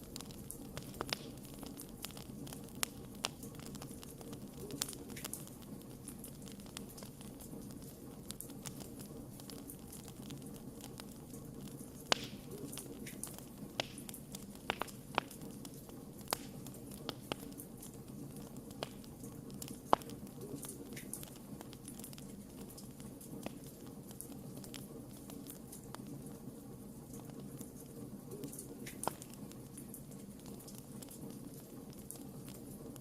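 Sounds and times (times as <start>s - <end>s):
logs crackling and popping: 0.0s - 33.0s
low sound of flames: 0.0s - 33.0s.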